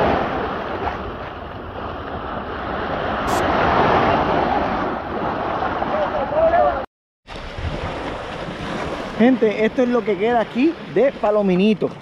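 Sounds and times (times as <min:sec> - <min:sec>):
small waves breaking: 0:00.0 - 0:12.0.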